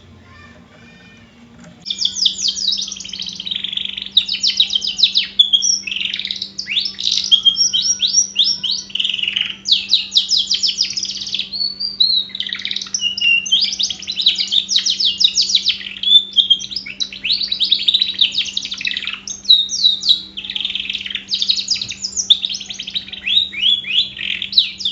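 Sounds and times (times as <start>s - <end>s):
canary singing trills: 0.0s - 24.9s.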